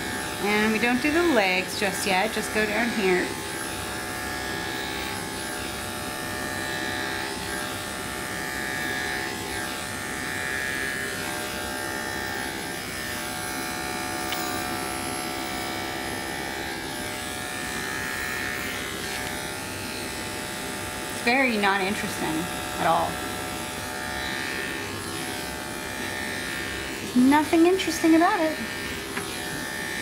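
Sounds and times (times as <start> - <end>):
electric clippers humming: 0.0 - 30.0.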